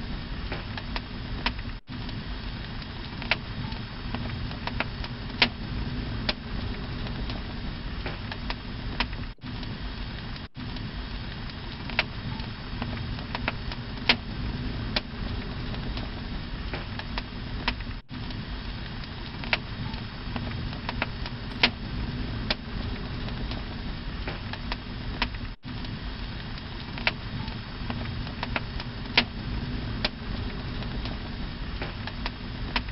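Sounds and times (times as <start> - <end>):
flame crackles and pops: 0.0 - 32.9
torch flame rushing: 0.0 - 32.9.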